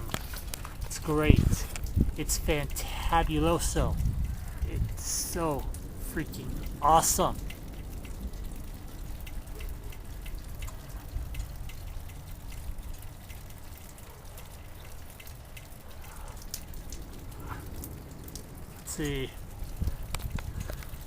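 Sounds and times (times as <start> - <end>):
rain dripping: 0.0 - 21.0.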